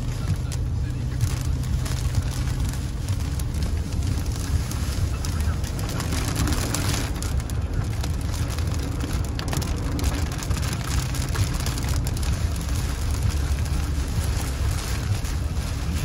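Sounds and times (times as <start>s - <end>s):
heavy rain on car windshield: 0.0s - 16.0s
tyres rumbling on wet road: 0.0s - 16.0s.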